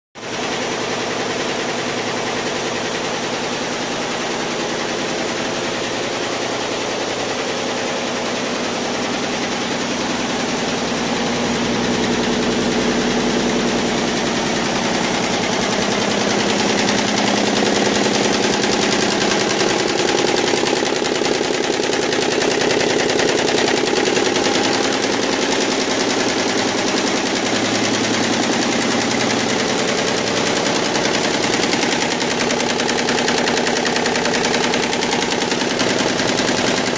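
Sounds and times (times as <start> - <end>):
embroidery machine stitching: 4.7 - 36.9.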